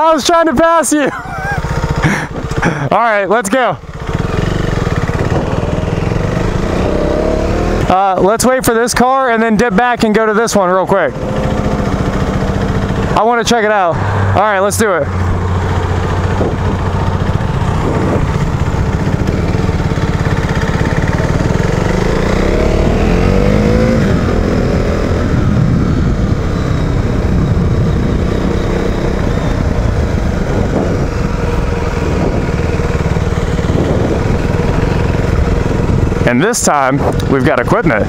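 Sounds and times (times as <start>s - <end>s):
motorcycle engine revving: 1.0s - 38.0s.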